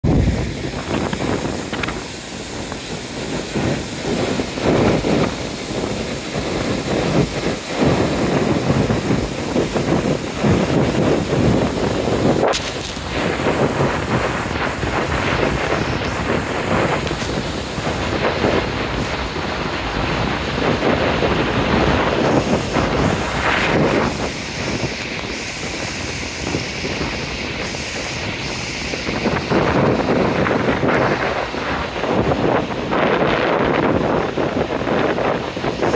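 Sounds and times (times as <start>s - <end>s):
waterfall rushing over rocks: 0.0s - 35.9s
wind buffeting microphone: 0.0s - 35.9s.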